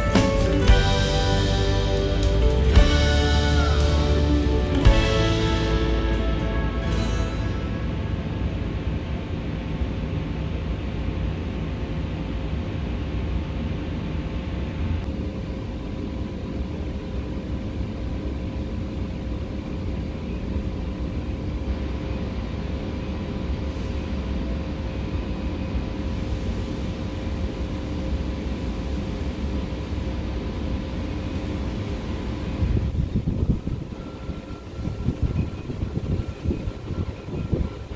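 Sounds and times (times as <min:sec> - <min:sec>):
machinery rumble and hum: 0:00.0 - 0:37.9.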